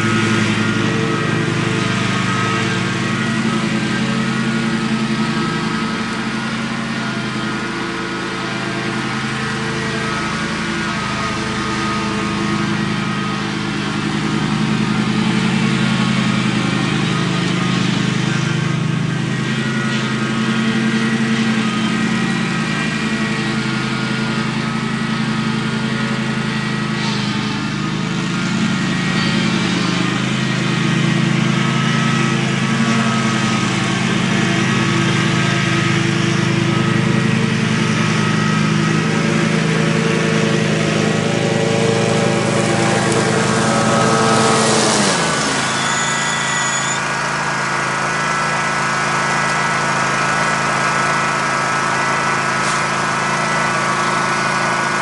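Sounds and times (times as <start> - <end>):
riding lawn mower engine running: 0.0 - 55.0.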